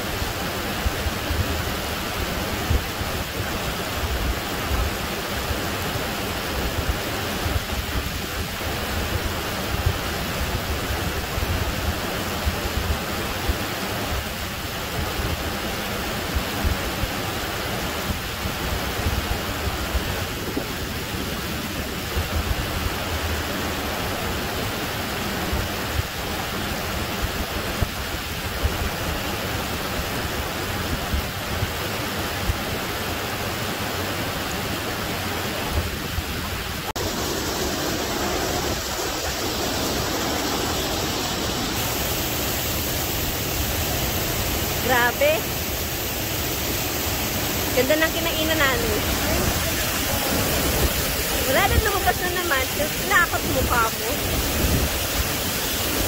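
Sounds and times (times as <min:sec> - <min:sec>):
water rushing down waterfall: 0:00.0 - 0:56.0.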